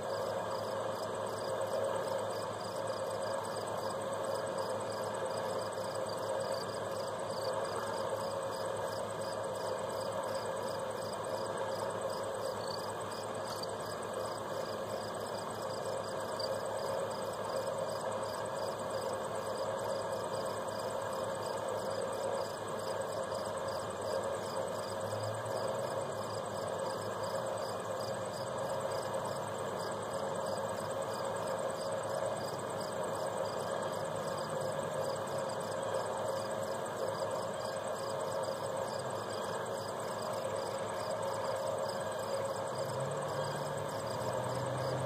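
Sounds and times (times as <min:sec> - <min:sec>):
constant low hum and hiss: 0:00.0 - 0:45.0
faint high insect chirps: 0:00.0 - 0:45.0.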